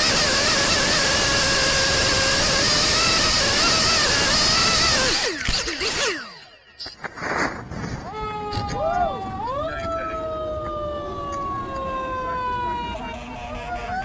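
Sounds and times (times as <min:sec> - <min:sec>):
quadcopter motors whining: 0:00.0 - 0:07.1, 0:08.1 - 0:14.0.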